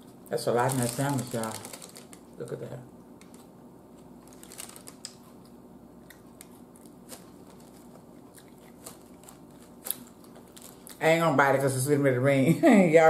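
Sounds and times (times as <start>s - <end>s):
sandwich wrapper crinkling: 0.3s - 11.0s.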